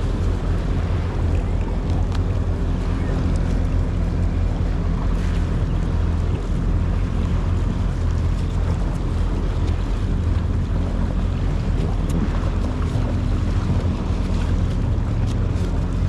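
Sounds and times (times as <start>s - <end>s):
jet ski engine drone: 0.0s - 16.0s
rushing water: 0.0s - 16.0s
wind buffeting microphone: 0.0s - 16.0s.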